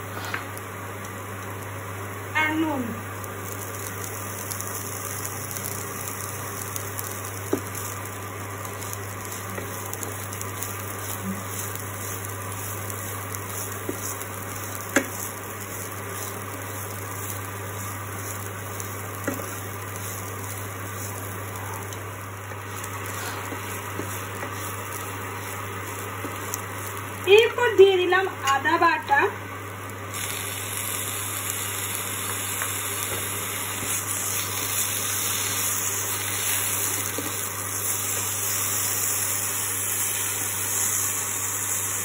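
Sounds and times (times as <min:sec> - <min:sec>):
rice sizzling in a frying pan: 0:00.0 - 0:42.0
steady low hum: 0:00.0 - 0:42.0.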